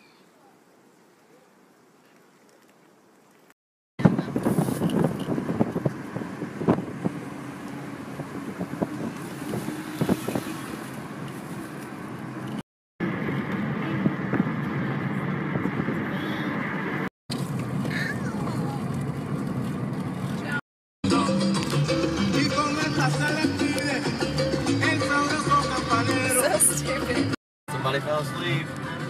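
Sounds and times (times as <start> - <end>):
car road and engine noise: 3.0 - 20.6, 21.5 - 29.0.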